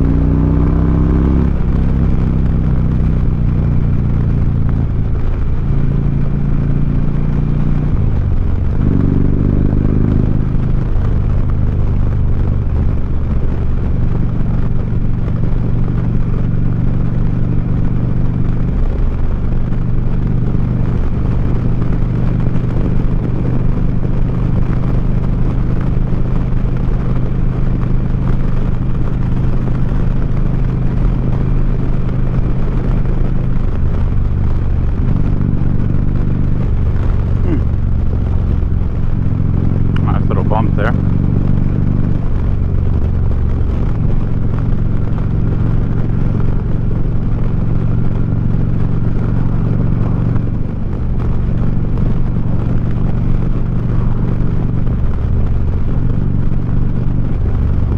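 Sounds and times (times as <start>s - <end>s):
motorcycle engine while riding: 0.0s - 57.9s.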